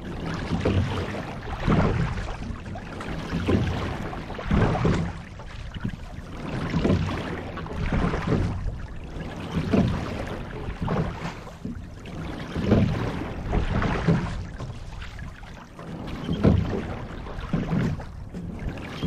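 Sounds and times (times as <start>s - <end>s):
water rushing along boat bow: 0.0s - 19.0s.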